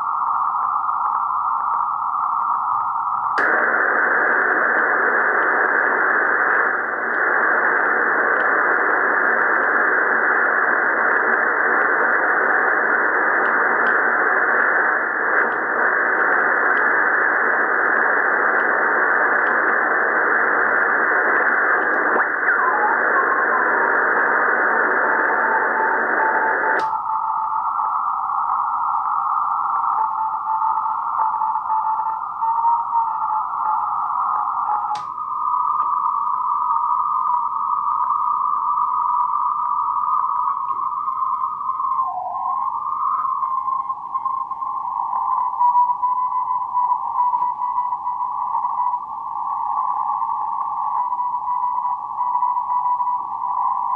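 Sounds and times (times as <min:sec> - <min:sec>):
radio receiver hiss: 0:00.0 - 0:53.9.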